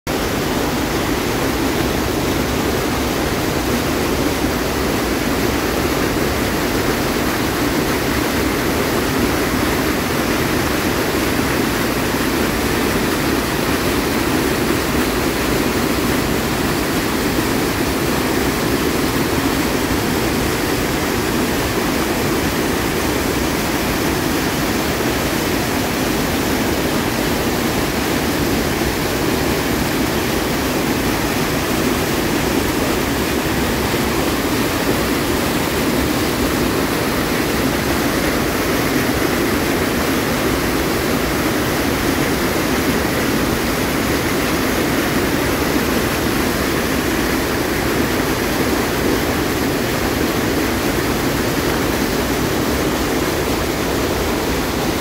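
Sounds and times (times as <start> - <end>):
water rushing over a dam: 0.1 - 55.0.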